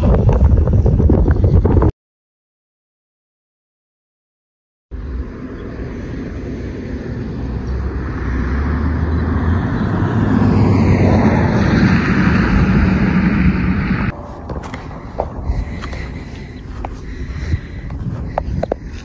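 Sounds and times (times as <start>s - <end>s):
wind gusting over microphone: 0.0s - 1.9s, 4.9s - 19.0s.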